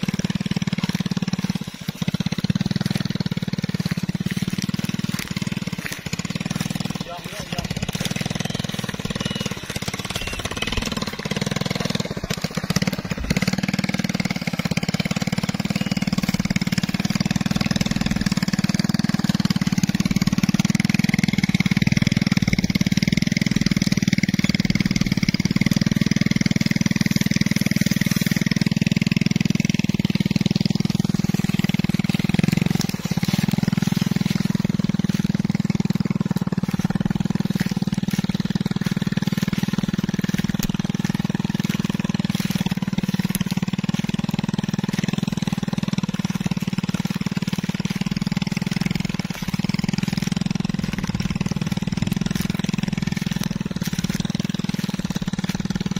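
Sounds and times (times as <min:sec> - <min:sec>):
small motorcycle engine under load: 0:00.0 - 0:55.9.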